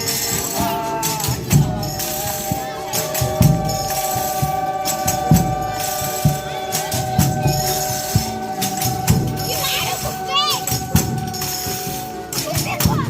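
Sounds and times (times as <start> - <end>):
drum beating: 0.0 - 13.0
tambourine jingles: 0.0 - 13.0
long held note: 1.8 - 12.4.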